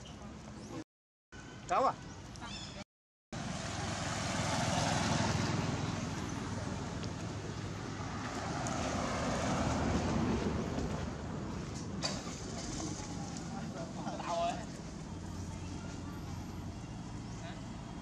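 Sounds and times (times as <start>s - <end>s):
passing traffic rumble: 3.4s - 18.0s.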